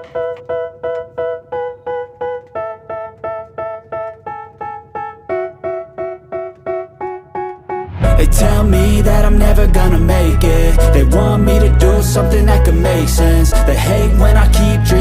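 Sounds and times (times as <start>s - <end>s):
keyboard playing repeated chords: 0.0s - 15.0s.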